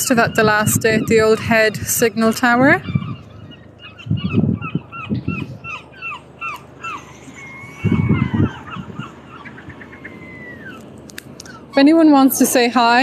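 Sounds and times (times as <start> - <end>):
gulls calling: 0.0 - 13.0
wind buffeting microphone: 0.0 - 13.0.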